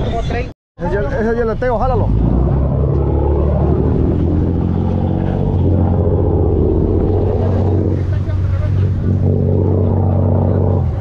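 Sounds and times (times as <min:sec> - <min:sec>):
boat engine humming: 0:00.9 - 0:11.0.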